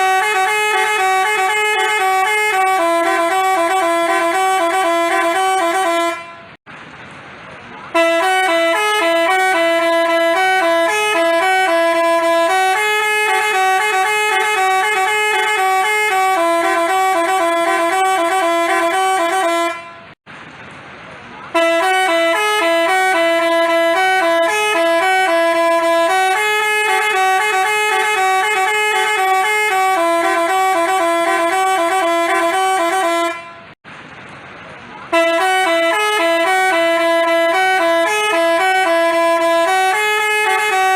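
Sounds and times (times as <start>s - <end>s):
bus horn playing a tune: 0.0s - 6.6s, 7.9s - 20.2s, 21.5s - 33.8s, 35.1s - 40.9s.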